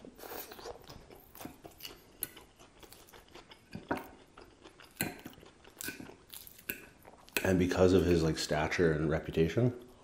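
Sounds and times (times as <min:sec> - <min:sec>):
person chewing crisp lettuce: 0:00.0 - 0:08.2.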